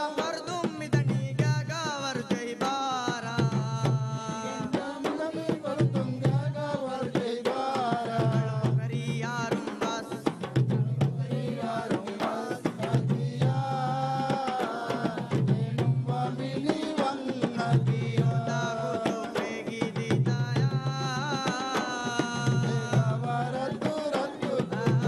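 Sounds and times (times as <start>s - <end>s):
hand drums fast rhythm: 0.0s - 25.0s
voices singing: 2.0s - 25.0s.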